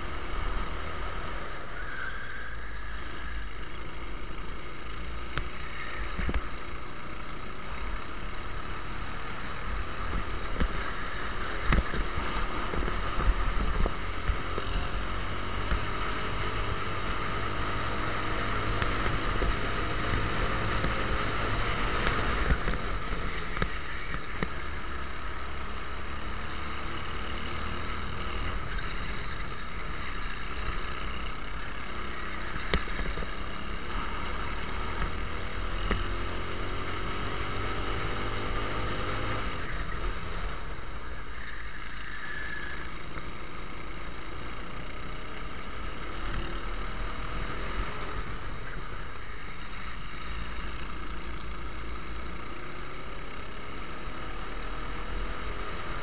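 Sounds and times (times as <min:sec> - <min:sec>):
racing kart engine accelerating: 0:00.0 - 0:56.0.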